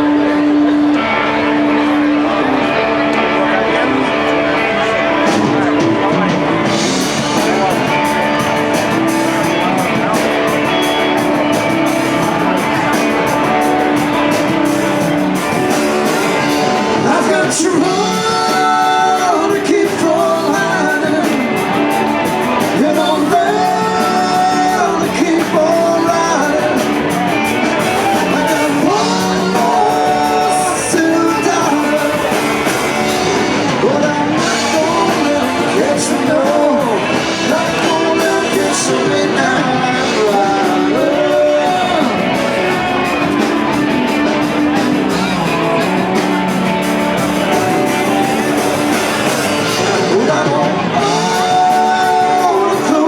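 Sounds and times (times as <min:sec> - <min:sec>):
person singing: 0:00.0 - 0:53.0
rock band playing: 0:00.0 - 0:53.0.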